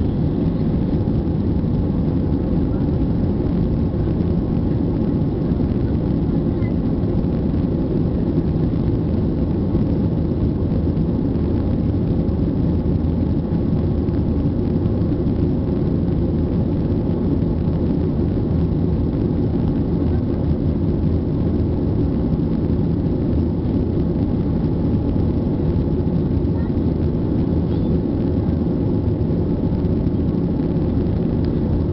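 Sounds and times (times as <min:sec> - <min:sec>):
jet engines rumbling: 0:00.0 - 0:31.9.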